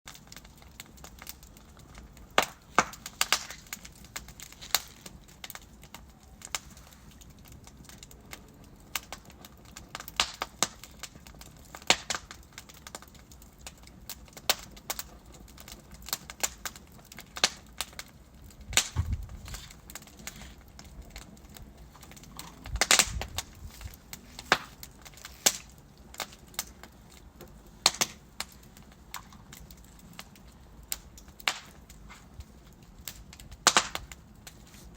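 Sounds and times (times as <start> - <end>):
burning logs settling thuds: 0.1 - 34.9
wood fire crackling: 0.1 - 34.9.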